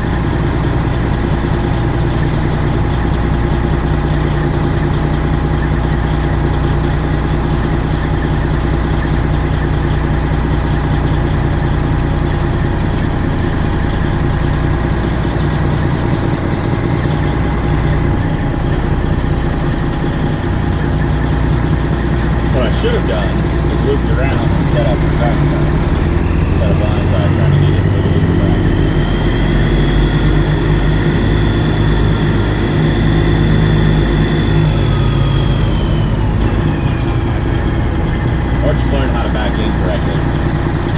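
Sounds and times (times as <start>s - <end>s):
truck diesel engine idling: 0.0s - 40.9s.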